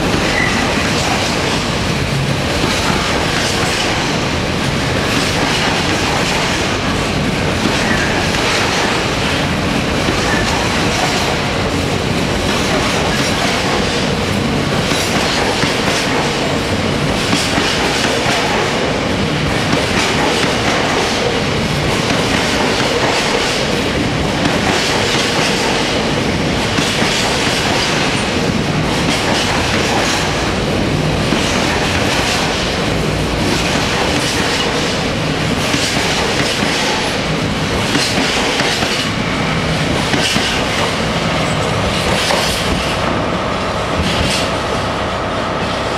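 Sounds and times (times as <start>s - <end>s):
freight train wheels clacking: 0.0s - 45.9s.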